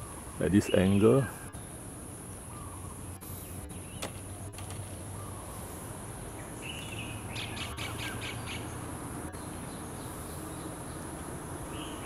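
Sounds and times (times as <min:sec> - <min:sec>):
bird calling: 0:00.0 - 0:12.0
steady high-pitched hiss: 0:00.0 - 0:12.0.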